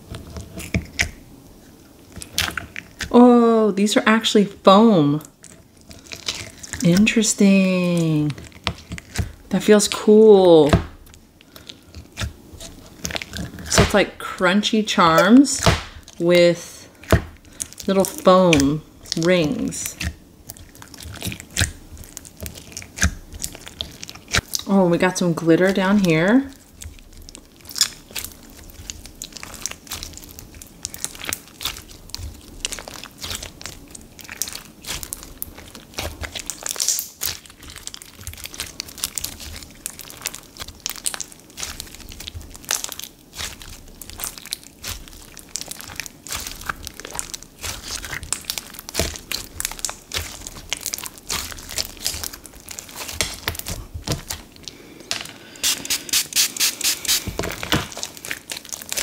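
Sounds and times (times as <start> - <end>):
slime crinkly crunching: 0.0 - 56.2, 56.8 - 59.0.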